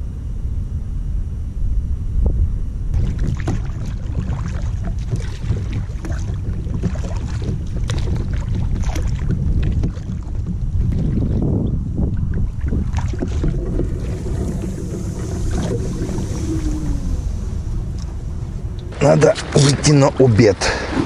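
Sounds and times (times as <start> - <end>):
wind rumble on microphone: 0.0 - 21.0
paddle splashing in water: 3.0 - 11.5, 12.1 - 21.0.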